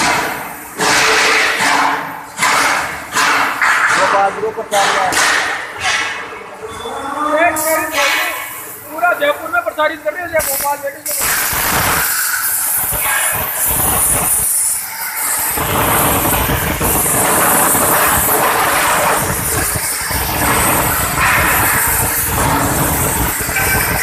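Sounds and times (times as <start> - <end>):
plasma cutter hissing: 0.0 - 3.6, 7.5 - 24.0.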